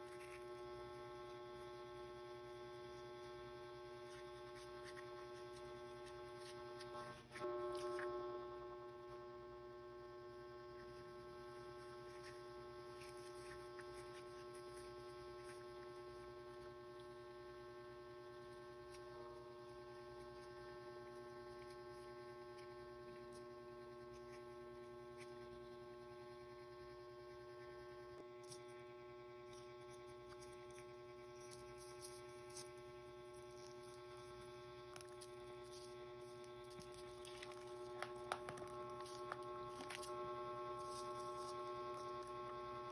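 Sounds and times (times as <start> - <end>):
faint electrical hum: 0.0 - 42.9.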